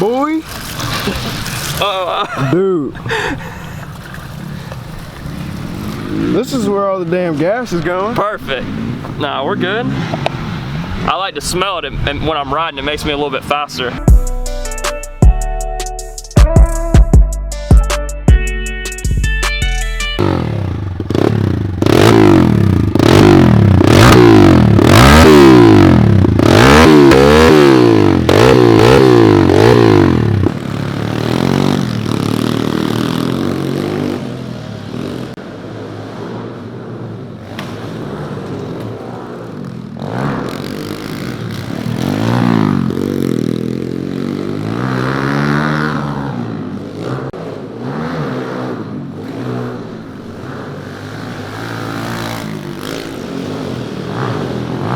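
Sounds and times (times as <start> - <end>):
motorbike engines revving: 0.0 - 14.1, 20.2 - 54.9.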